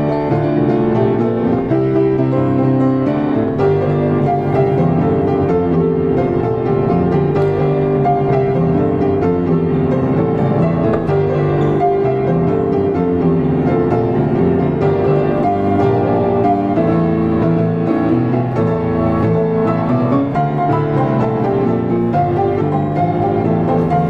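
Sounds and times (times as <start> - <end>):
solo grand piano: 0.0 - 24.0.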